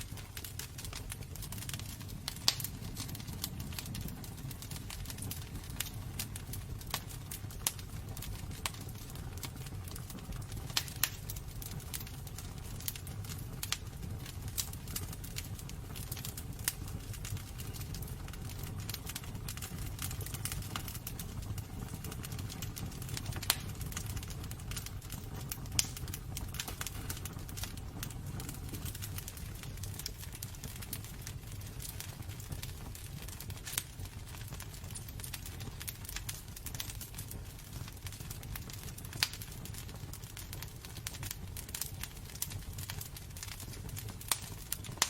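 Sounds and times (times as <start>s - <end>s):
fire crackling and popping: 0.0s - 45.0s
wood fire rumbling: 0.0s - 45.0s.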